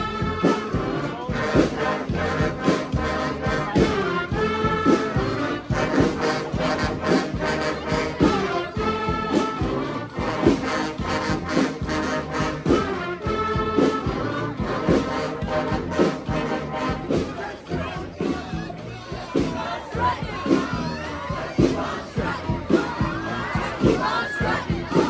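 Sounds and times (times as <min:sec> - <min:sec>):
brass band playing funk: 0:00.0 - 0:25.0.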